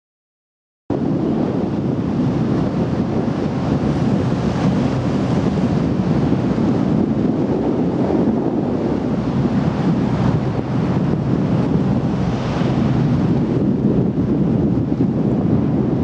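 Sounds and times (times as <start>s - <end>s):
water rushing around boat: 0.9s - 16.0s
wind buffeting microphone: 0.9s - 16.0s.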